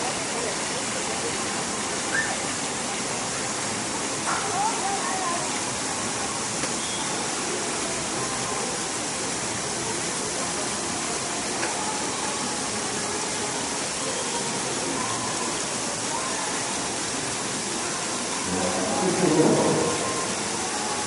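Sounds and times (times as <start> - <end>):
faint crowd voices: 0.0 - 21.0
fountain jets splashing: 0.0 - 21.0.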